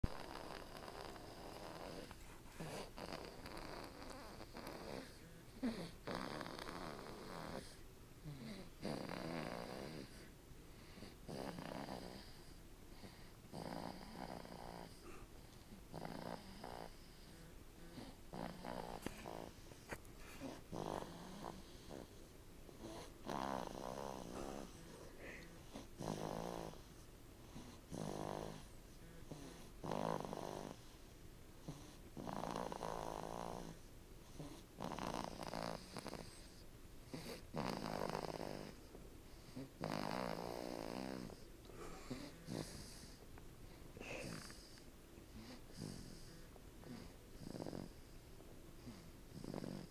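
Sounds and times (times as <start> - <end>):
slow rhythmic snoring: 0.0 - 49.9.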